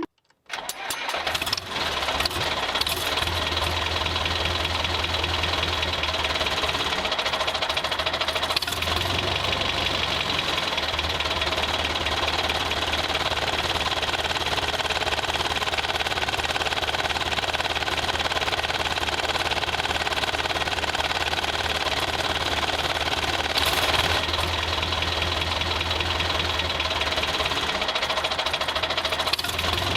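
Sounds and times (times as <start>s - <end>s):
vehicle engine chugging: 1.4s - 29.9s.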